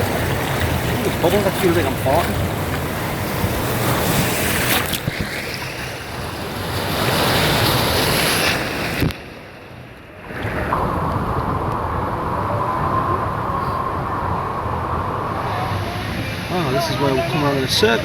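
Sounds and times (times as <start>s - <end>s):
rushing churning water: 0.0s - 18.0s.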